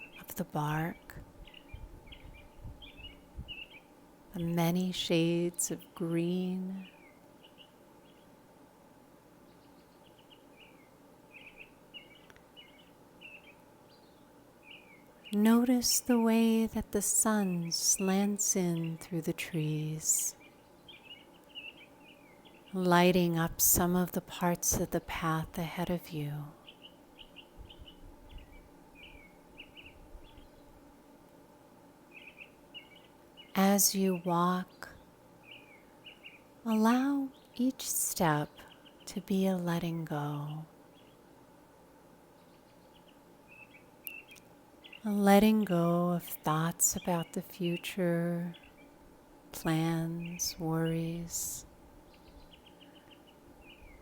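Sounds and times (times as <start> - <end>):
faint birdsong: 0.0 - 54.0
faint low background noise: 0.0 - 54.0
low background hiss: 0.0 - 54.0.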